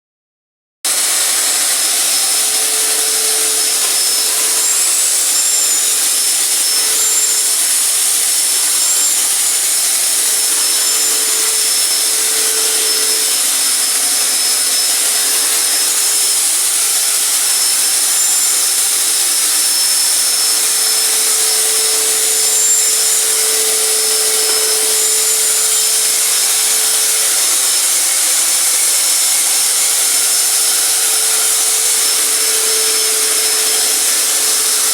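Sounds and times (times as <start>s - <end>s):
vacuum cleaner running: 0.9s - 34.9s.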